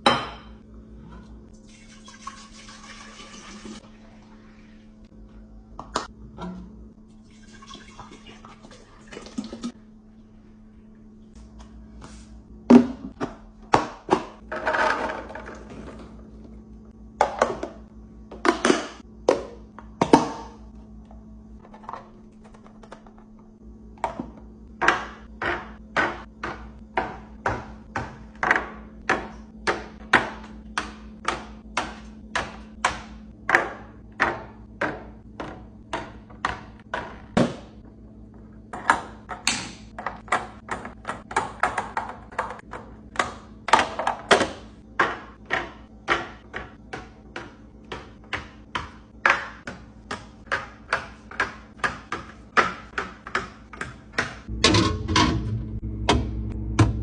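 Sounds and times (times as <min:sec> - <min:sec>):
refrigerator hum: 0:00.0 - 0:57.0.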